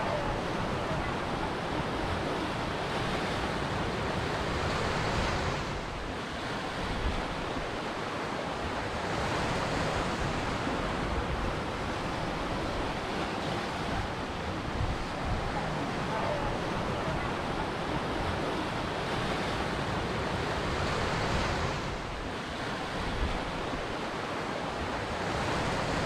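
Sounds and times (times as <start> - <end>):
waves breaking on shore: 0.0 - 26.0.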